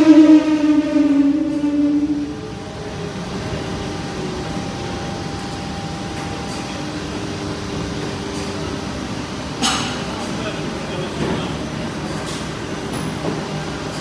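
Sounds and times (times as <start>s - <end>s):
factory machinery drone: 0.0s - 14.0s.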